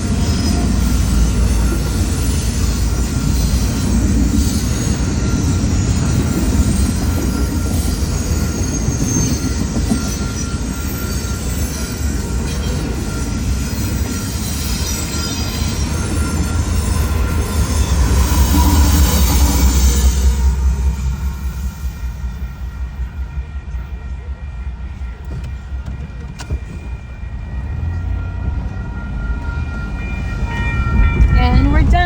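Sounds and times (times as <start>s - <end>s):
faint high wheel squeal: 0.0s - 31.5s
train cars rumbling on rails: 0.0s - 32.0s.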